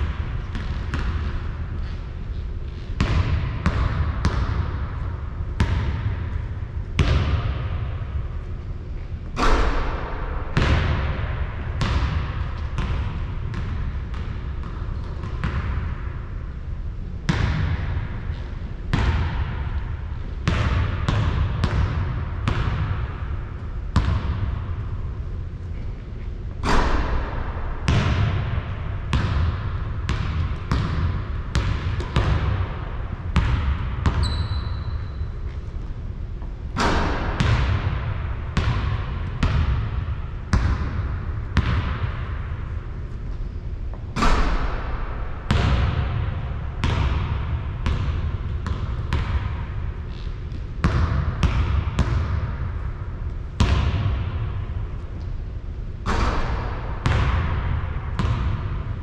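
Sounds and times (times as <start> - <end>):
basketball bouncing in gym: 0.0 - 59.0.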